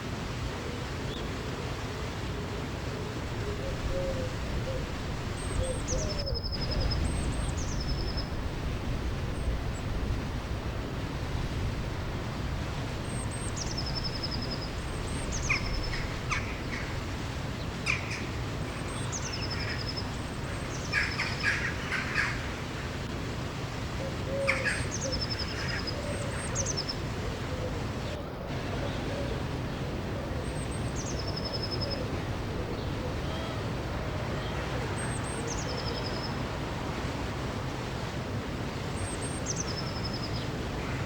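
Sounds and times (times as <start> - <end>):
river water flowing: 6.8 - 41.0.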